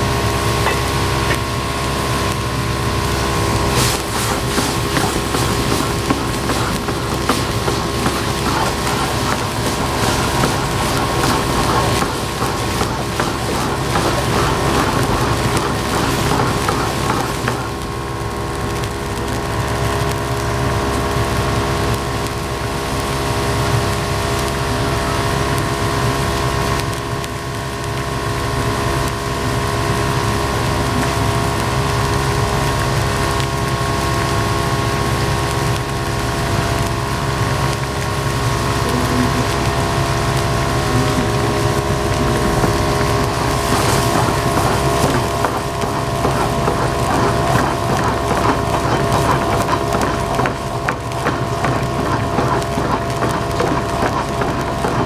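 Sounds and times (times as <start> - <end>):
broth boiling and bubbling: 0.0 - 55.0
burner and ventilation hum: 0.0 - 55.0.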